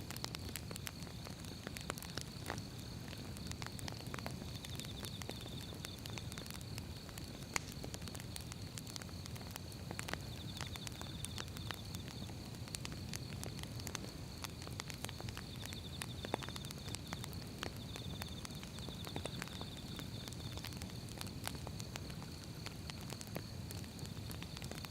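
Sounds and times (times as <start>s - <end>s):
firewood crackling and popping: 0.0s - 24.9s
low rumble of flames: 0.0s - 24.9s.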